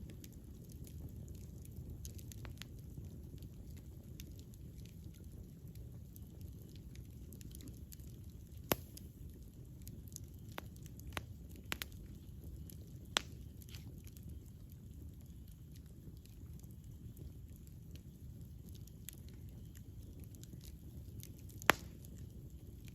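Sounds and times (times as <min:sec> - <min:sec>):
campfire crackles and pops: 0:00.0 - 0:22.9
low rumble of flames: 0:00.0 - 0:22.9.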